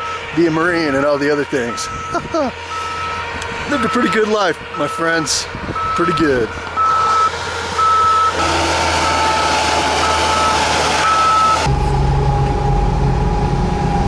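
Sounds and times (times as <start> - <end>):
engine and track noise: 0.0 - 14.0
back-up alarm beeping: 1.6 - 12.9.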